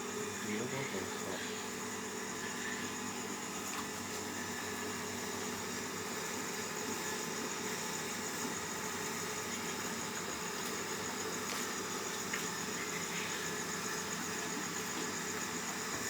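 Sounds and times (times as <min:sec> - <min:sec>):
electric fan motor humming: 0:00.0 - 0:16.0.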